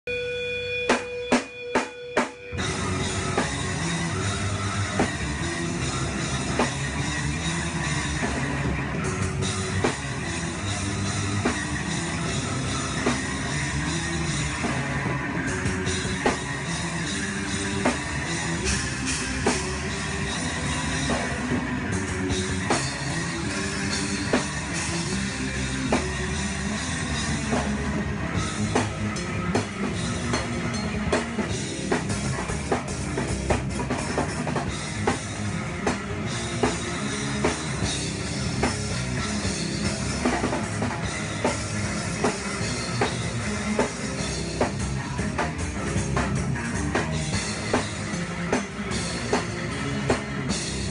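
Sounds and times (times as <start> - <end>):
electric bass: 0.0 - 50.9
drum kit beat: 0.1 - 50.9
electric guitar: 0.1 - 50.9.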